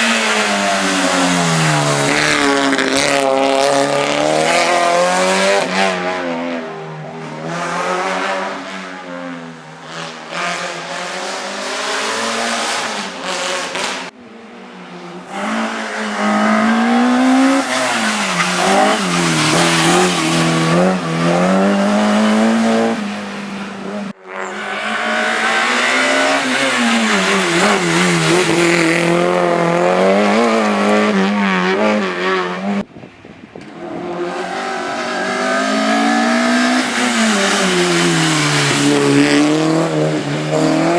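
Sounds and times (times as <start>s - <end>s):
car engines revving: 0.0s - 32.9s, 33.6s - 40.9s.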